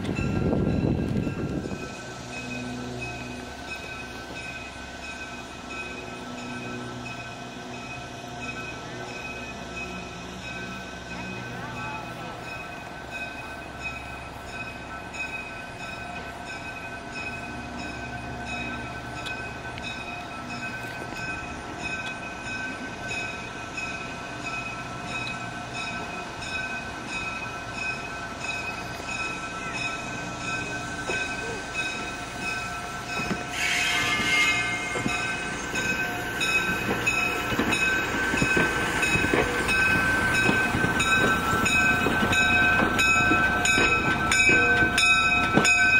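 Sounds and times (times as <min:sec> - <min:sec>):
diesel railcar engines throbbing: 0:00.0 - 0:45.9
wheels clicking over rail joints: 0:03.7 - 0:45.9.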